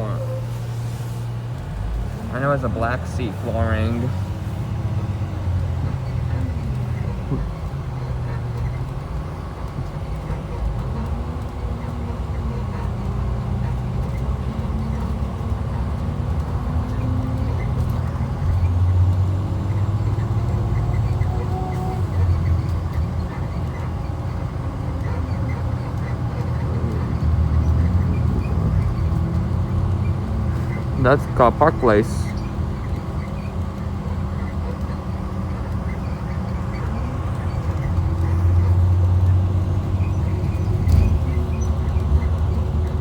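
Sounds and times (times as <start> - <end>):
diesel engine droning: 0.0 - 43.0
road noise: 0.0 - 43.0.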